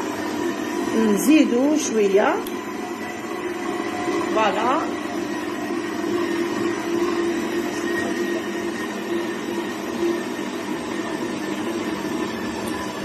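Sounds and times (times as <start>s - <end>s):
stand mixer kneading dough: 0.0s - 13.0s.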